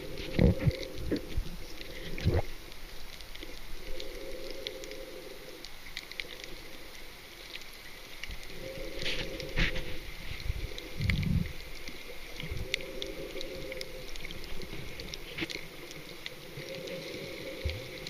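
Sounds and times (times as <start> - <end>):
faint crackling clicks underwater: 0.0 - 18.0.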